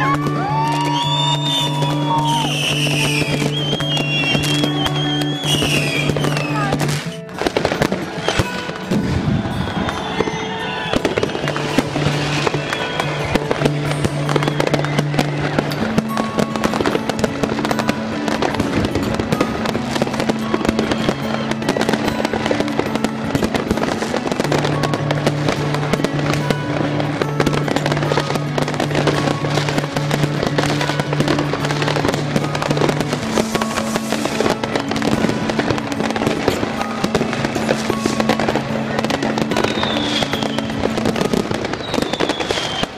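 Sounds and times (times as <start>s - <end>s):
fireworks and firecrackers banging: 0.0s - 42.9s.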